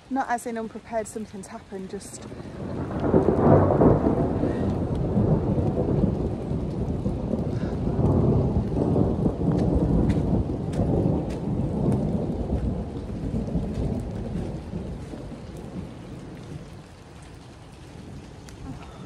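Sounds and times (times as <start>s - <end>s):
raindrops ticking: 0.0s - 19.0s
rolling thunder: 2.2s - 19.0s.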